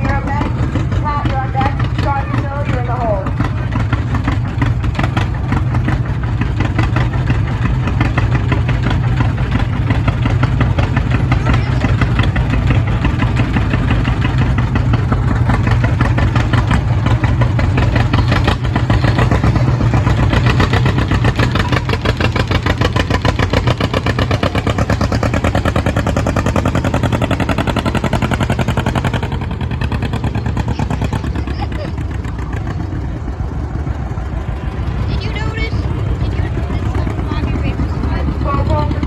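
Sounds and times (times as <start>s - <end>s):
tractor engine running loud: 0.0s - 39.0s.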